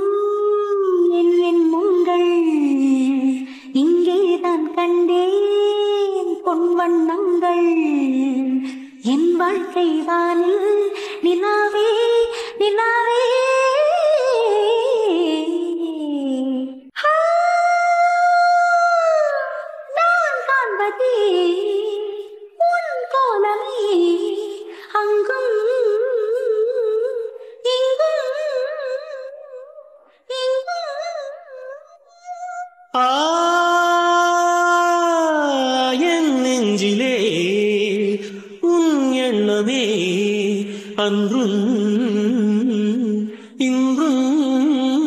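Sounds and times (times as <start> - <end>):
woman singing slow melody: 0.0 - 45.0.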